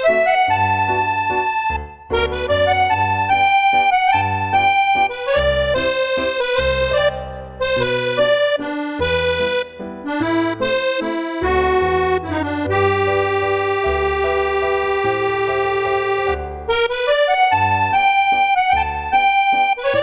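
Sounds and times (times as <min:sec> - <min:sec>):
instrumental music: 0:00.0 - 0:20.0.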